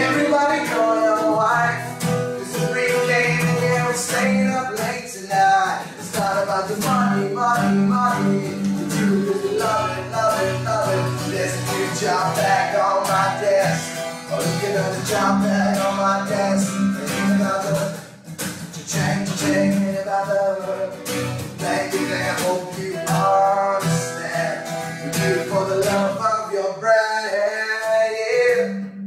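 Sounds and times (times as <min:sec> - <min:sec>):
acoustic guitar strumming: 0:00.0 - 0:29.0
man singing: 0:00.0 - 0:29.0.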